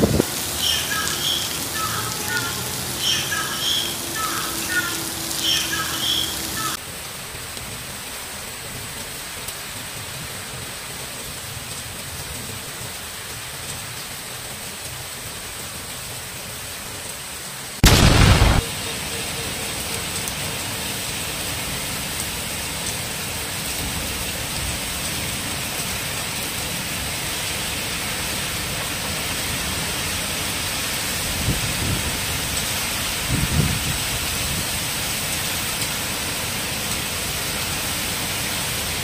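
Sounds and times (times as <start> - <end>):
heavy rain hissing: 0.0 - 11.1, 14.2 - 39.0.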